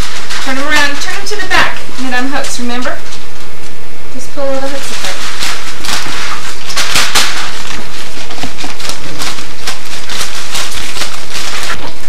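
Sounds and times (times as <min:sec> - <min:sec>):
paper packaging crinkling: 0:00.0 - 0:03.3, 0:04.6 - 0:12.0.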